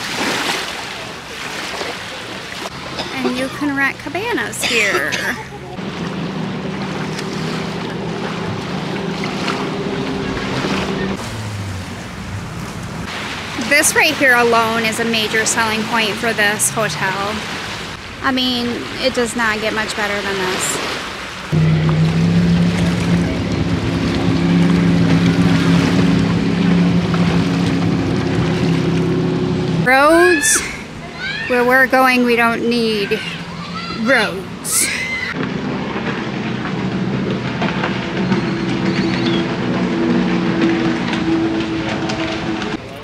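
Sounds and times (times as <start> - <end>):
boat engine droning: 0.0 - 43.0
water washing: 0.0 - 43.0.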